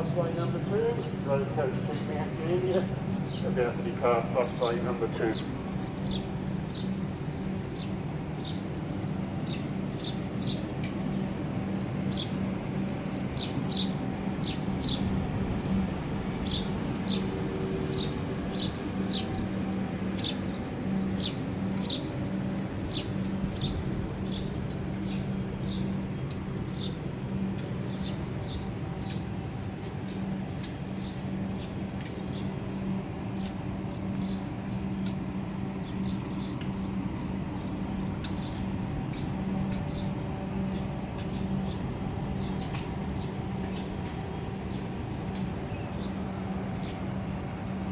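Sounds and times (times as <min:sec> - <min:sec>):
small birds chirping: 0:00.0 - 0:47.9
steady low hum: 0:00.0 - 0:47.9.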